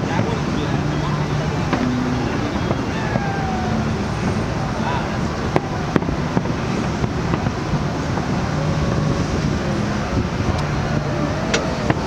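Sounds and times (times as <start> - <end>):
distant fireworks bursting: 0.0 - 12.0
outdoor background noise: 0.0 - 12.0.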